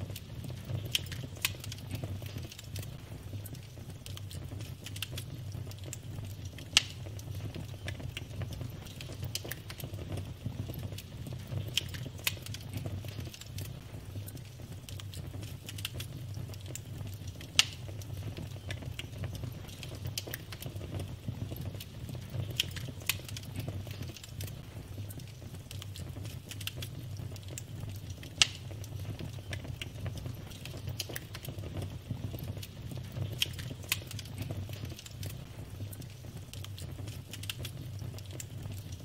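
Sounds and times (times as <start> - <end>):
loud fire pops: 0.0 - 39.0
low fire rumble: 0.0 - 39.0
wood fire crackling: 0.0 - 39.0.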